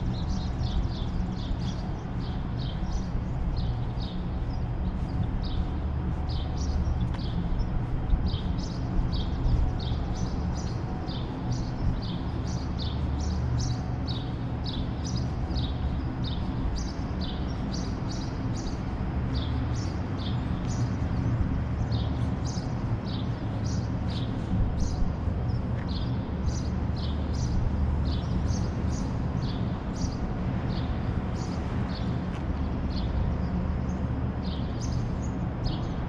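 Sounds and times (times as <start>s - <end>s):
low rumble of city traffic: 0.0s - 36.0s
small birds chirping: 0.0s - 36.0s.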